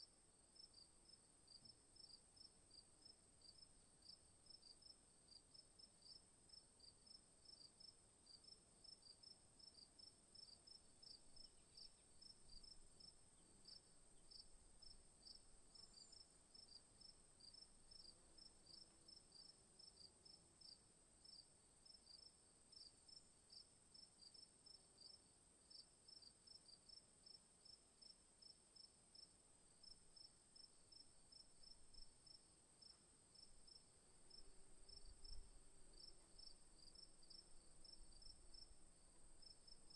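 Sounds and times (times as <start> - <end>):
crickets chirping: 6.0 - 23.6, 25.0 - 39.9.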